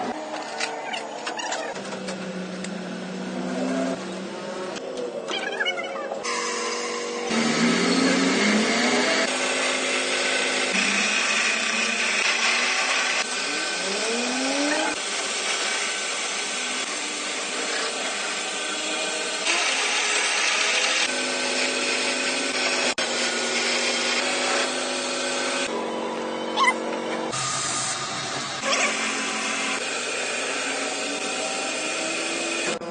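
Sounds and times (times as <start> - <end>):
lathe machine whine: 6.2 - 32.9.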